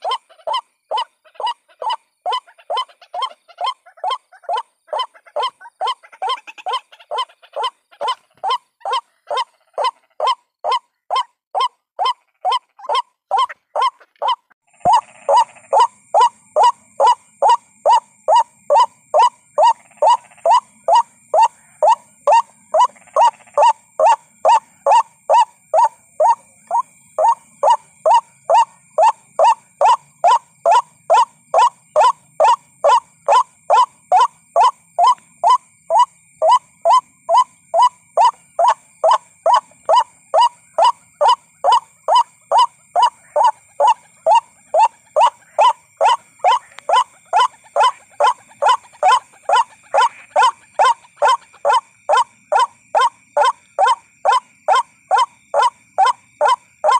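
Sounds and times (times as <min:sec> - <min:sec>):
bird calls: 0:00.0 - 0:56.9.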